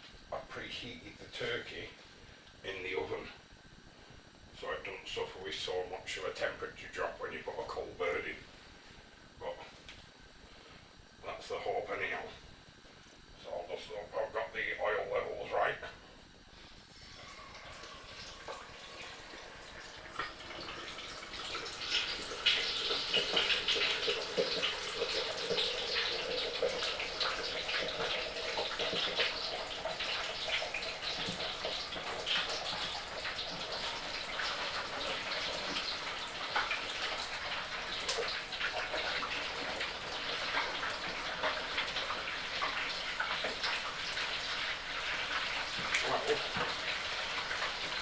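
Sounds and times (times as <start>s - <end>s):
hot oil bubbling and sizzling: 0.0s - 48.0s.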